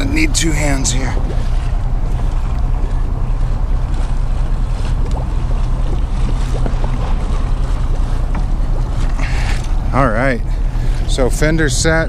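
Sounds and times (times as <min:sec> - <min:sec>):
diesel engines running: 0:00.0 - 0:12.0
wind on microphone: 0:00.0 - 0:12.0.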